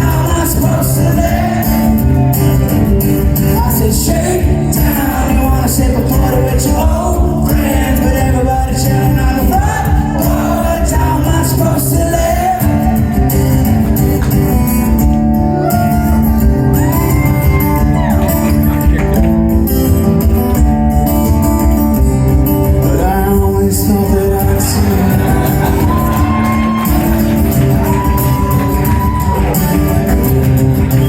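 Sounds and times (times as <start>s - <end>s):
live band music with singing: 0.0s - 31.0s.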